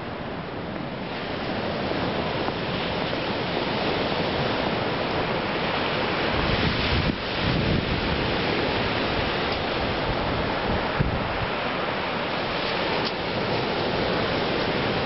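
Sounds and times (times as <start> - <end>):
sea surf: 0.0 - 15.0
wind: 0.0 - 15.0
wind buffeting microphone: 0.0 - 15.0.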